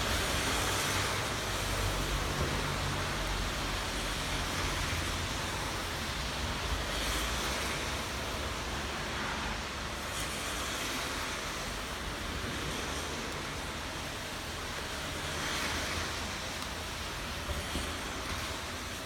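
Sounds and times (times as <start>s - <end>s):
rain falling on plants: 0.0s - 19.0s.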